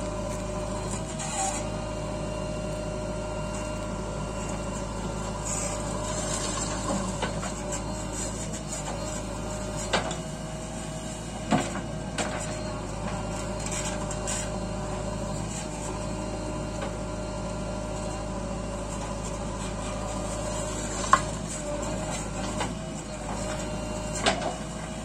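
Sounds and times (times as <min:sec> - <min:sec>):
backhoe digging soil: 0:00.0 - 0:25.0
diesel engine running under load: 0:00.0 - 0:25.0.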